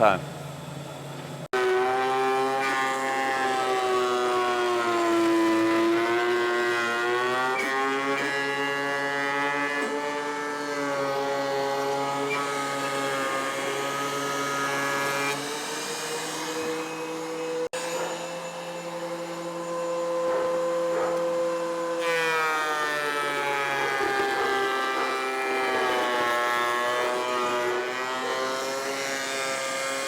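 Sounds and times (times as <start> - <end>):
thickness planer whining: 0.9 - 30.0.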